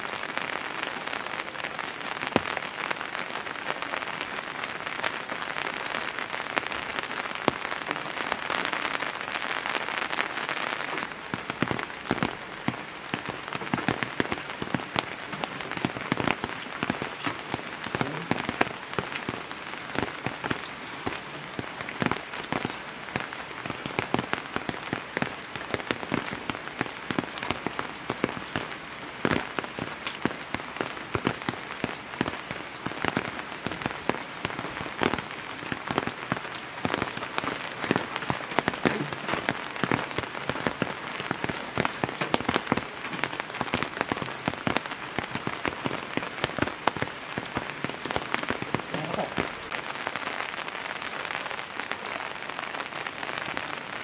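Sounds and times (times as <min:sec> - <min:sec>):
heavy rain: 0:00.0 - 0:54.0
raindrop hits: 0:00.0 - 0:54.0.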